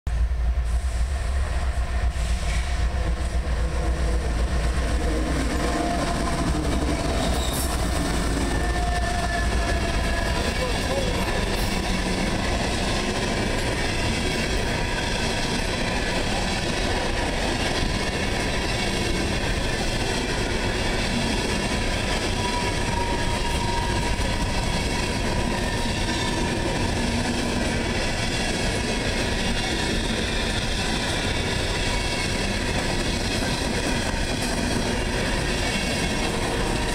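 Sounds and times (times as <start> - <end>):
train cars rolling on rails: 0.1 - 36.9.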